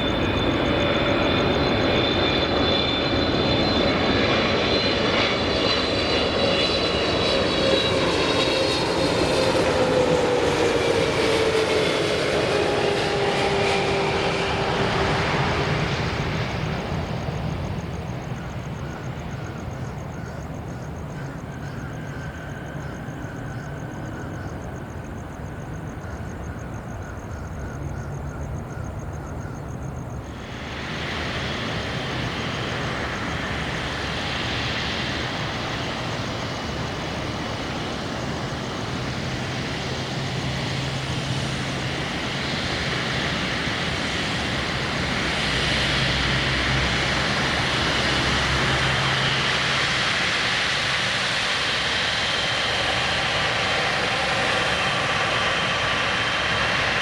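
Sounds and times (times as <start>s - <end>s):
jet airliner engines: 0.0s - 57.0s.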